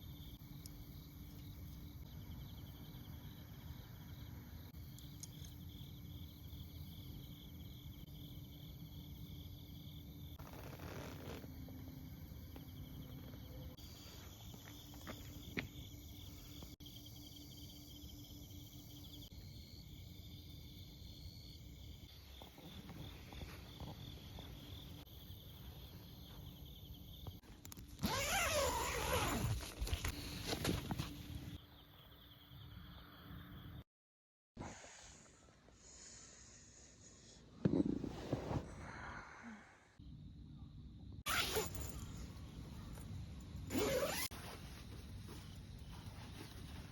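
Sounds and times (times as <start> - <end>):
crickets trilling: 0.0 - 33.8, 40.0 - 46.9.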